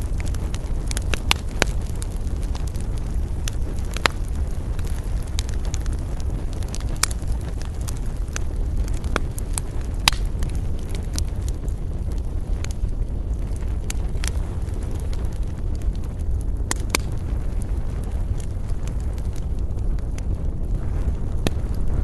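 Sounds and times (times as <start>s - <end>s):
campfire rumble: 0.0s - 22.0s
wood crackling and popping: 0.0s - 22.0s.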